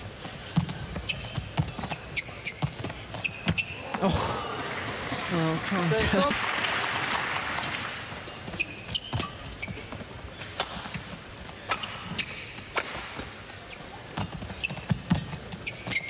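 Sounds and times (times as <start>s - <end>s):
shoes squeaking: 0.0s - 5.2s, 5.8s - 6.4s, 8.0s - 16.0s
low arena hum: 0.0s - 15.8s.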